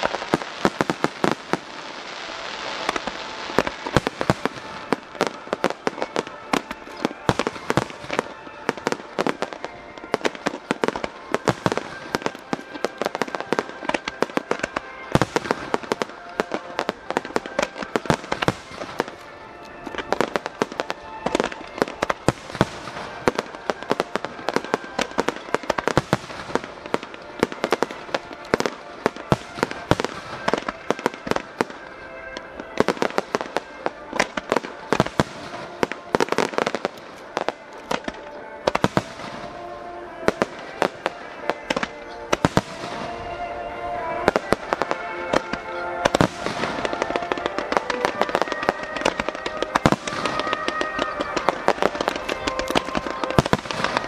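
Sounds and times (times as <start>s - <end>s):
fireworks bangs and crackling: 0.0s - 54.0s
music playing: 0.0s - 54.0s.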